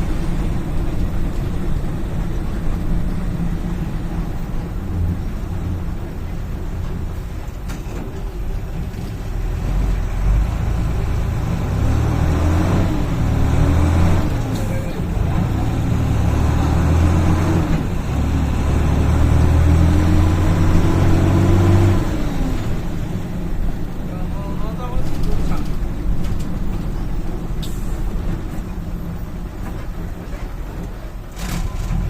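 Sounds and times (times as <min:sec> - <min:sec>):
diesel coach engine under load: 0:00.0 - 0:32.0.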